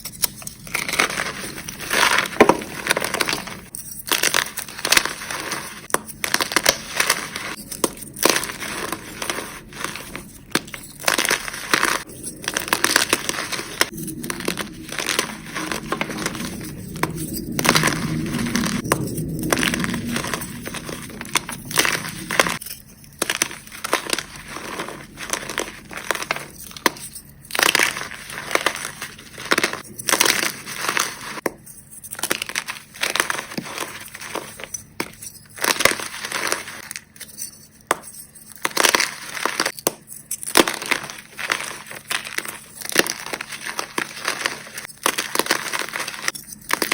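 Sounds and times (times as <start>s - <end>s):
chalk being crushed: 0.0s - 46.9s.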